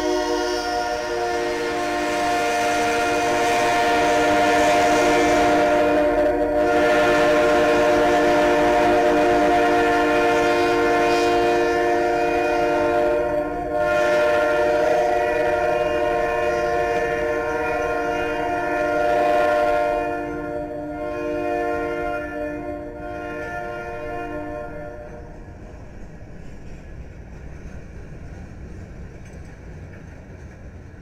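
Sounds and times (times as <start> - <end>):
train horn chord: 0.0 - 25.6
rumble of passing train: 0.0 - 31.0.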